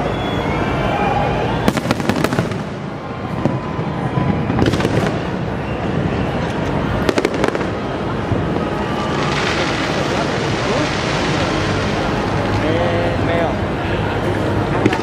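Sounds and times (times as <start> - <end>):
fireworks crackling volleys: 1.5 - 15.0.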